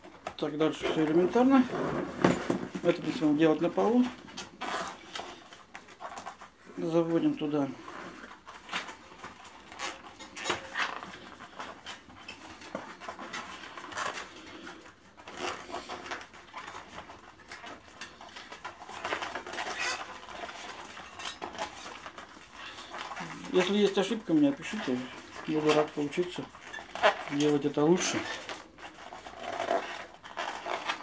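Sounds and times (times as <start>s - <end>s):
rubber tyre rubbing and squeaking: 0.0s - 31.0s.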